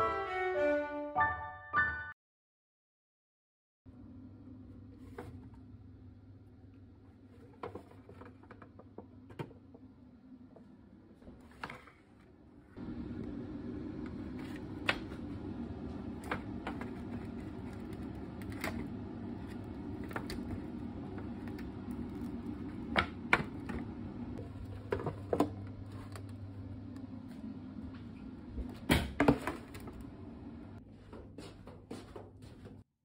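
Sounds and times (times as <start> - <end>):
kitchen appliance humming: 3.9 - 30.8.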